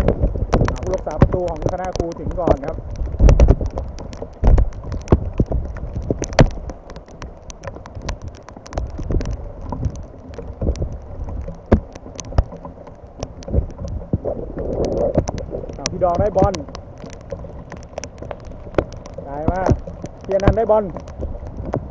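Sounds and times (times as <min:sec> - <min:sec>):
raindrops tapping: 0:00.0 - 0:21.9
wind buffeting microphone: 0:00.0 - 0:21.9.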